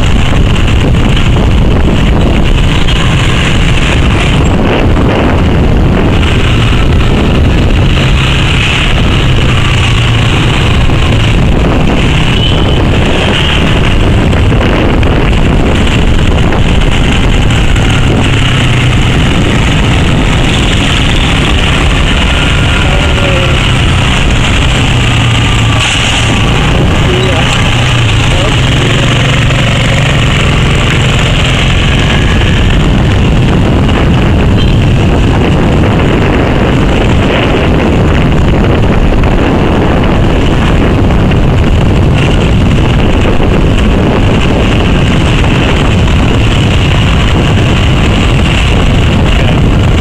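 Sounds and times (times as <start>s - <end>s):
moped engine running: 0.0s - 50.0s
road traffic: 0.0s - 50.0s
wind noise on microphone: 0.0s - 50.0s.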